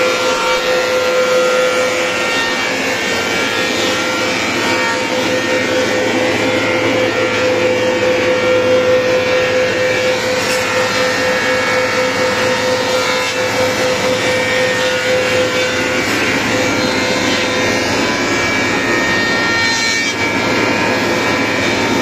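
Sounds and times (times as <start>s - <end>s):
planer machine running: 0.0s - 22.0s.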